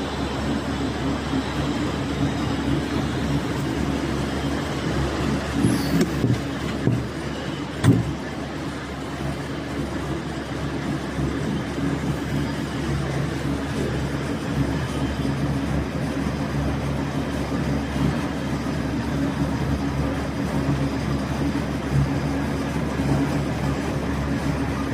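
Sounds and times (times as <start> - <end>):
mechanical hum and rumble: 0.0 - 24.9.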